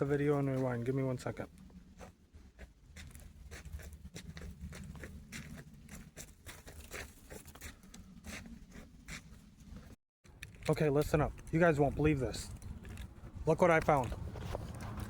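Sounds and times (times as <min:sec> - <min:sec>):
footsteps crunching on trail: 0:00.1 - 0:10.0, 0:12.5 - 0:15.0.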